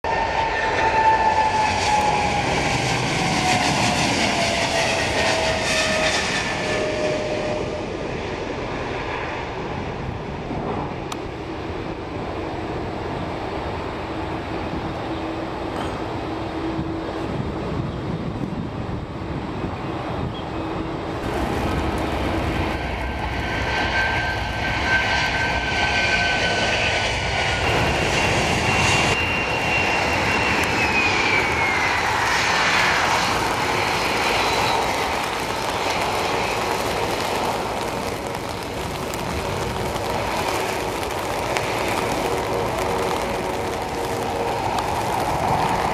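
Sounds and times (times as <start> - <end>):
jet engines roaring: 0.0 - 45.9
turbine whine: 0.0 - 45.9.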